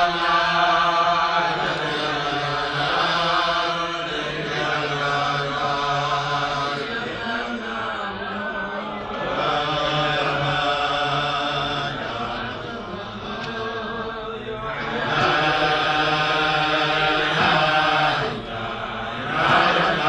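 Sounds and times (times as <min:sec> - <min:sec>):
men singing wordless melody: 0:00.0 - 0:20.0.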